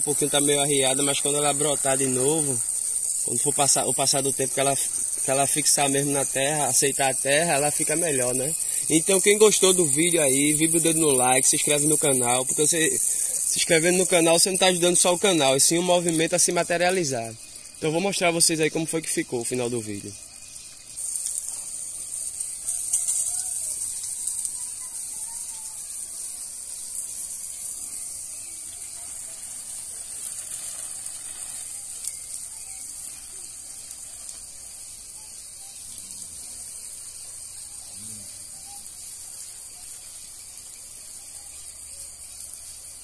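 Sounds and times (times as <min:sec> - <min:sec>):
faint chirps: 0:00.0 - 0:43.0
high-pitched outdoor hiss: 0:00.0 - 0:43.0.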